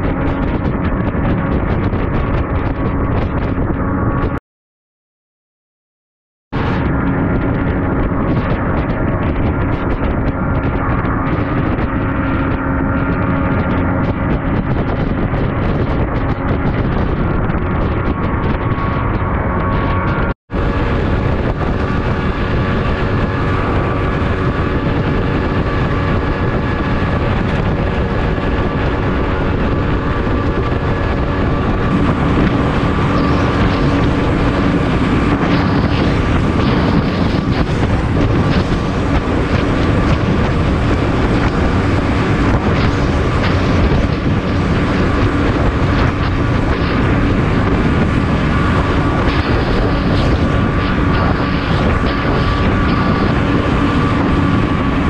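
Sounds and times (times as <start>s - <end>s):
outboard motor running hard: 0.0s - 4.4s, 6.6s - 55.0s
wind buffeting microphone: 0.0s - 4.4s, 6.5s - 55.0s
water rushing past hull: 6.6s - 55.0s.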